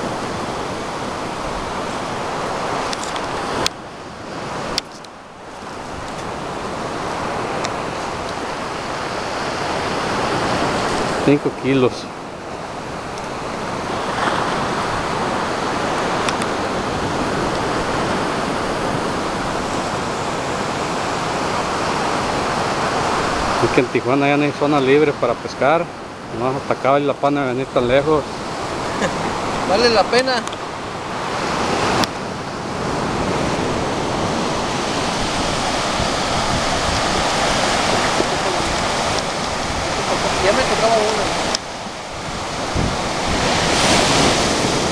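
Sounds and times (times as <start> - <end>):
surf breaking on shore: 0.0 - 44.9
wind rumbling on microphone: 0.0 - 44.9.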